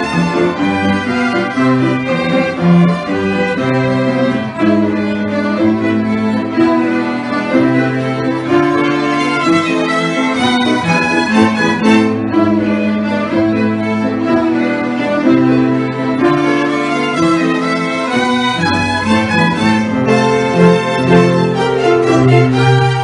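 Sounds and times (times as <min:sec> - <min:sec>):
cello notes: 0:00.0 - 0:23.0
violins playing melody: 0:00.0 - 0:23.0.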